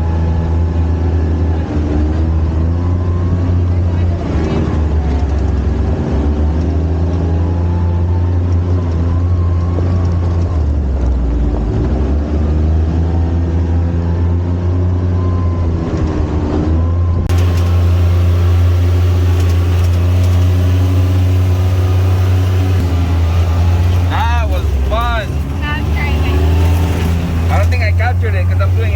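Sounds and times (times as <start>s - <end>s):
utility vehicle engine running: 0.0s - 28.9s.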